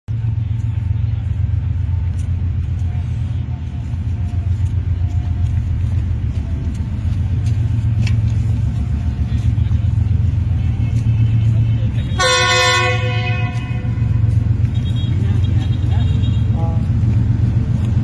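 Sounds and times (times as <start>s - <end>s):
diesel locomotive engine rumbling: 0.1s - 18.0s.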